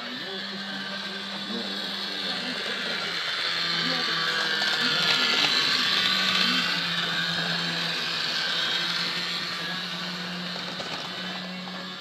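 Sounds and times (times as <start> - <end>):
model train motor whirring: 0.0 - 12.0
wheels hissing on rails: 0.0 - 12.0.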